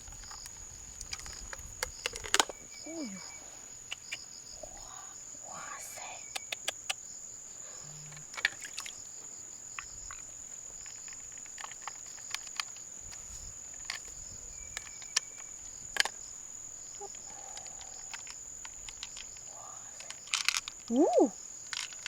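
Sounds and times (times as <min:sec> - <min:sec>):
cricket trilling: 0:00.0 - 0:22.0.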